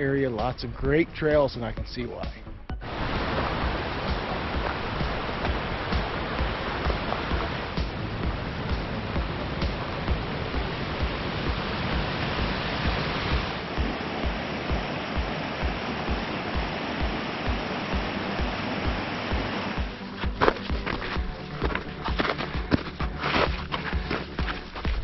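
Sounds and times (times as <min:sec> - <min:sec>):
background music with beat: 0:00.0 - 0:02.9, 0:03.6 - 0:25.0
creek water rushing: 0:02.8 - 0:25.0.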